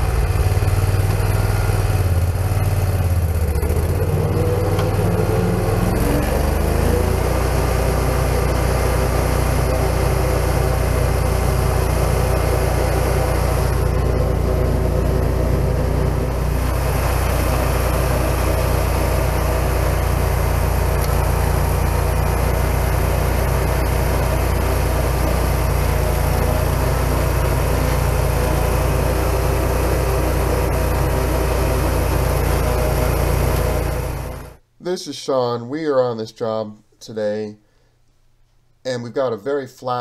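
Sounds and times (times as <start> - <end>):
cutter grinding soil and roots: 0.0 - 34.6
stump grinder engine running: 0.0 - 34.6.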